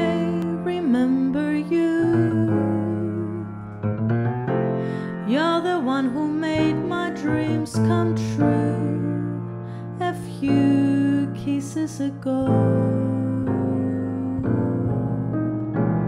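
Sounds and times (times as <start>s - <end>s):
woman singing: 0.0s - 3.6s, 5.1s - 15.5s
grand piano accompaniment: 0.0s - 16.0s.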